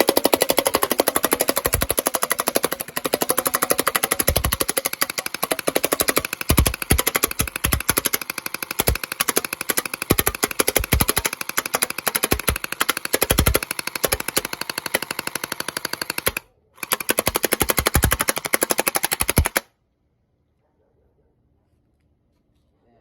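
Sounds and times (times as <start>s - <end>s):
gel blaster firing rapid shots: 0.0s - 19.7s.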